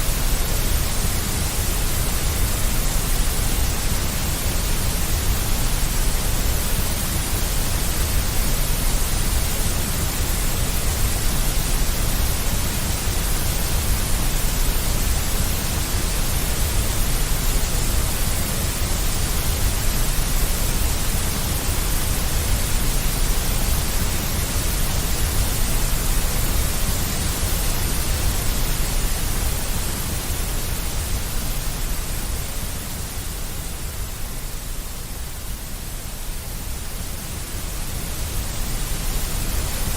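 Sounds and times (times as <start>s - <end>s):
deep white noise: 0.0s - 39.9s.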